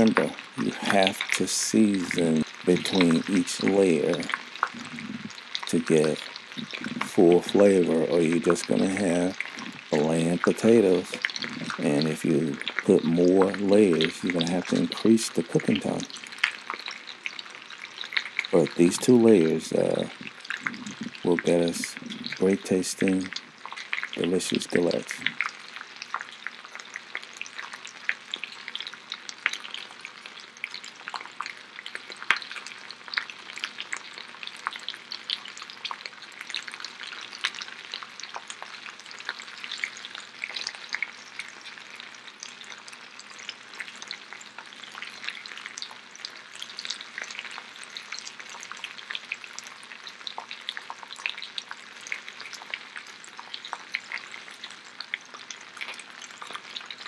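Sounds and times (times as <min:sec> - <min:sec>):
food sizzling in oil: 0:00.0 - 0:57.0
oil crackling and popping: 0:00.0 - 0:57.0.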